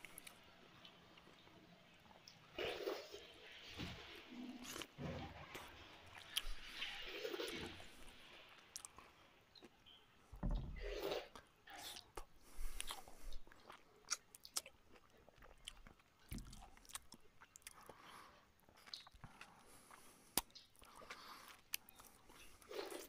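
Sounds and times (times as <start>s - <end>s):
chewing and wet mouth sounds: 0.0s - 10.2s, 11.0s - 23.0s.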